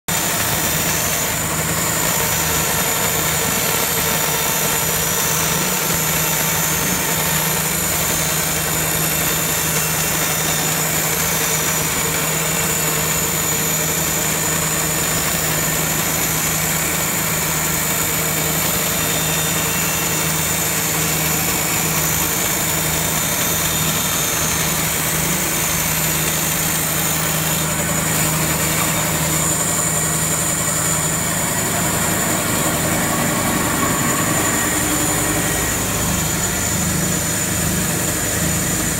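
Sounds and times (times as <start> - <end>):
band saw cutting plastic: 0.1 - 38.9.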